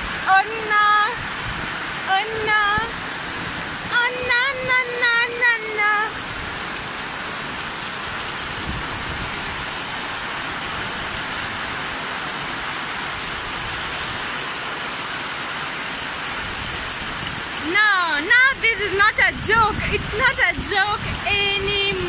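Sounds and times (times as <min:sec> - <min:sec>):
heavy rain on pavement: 0:00.0 - 0:22.0.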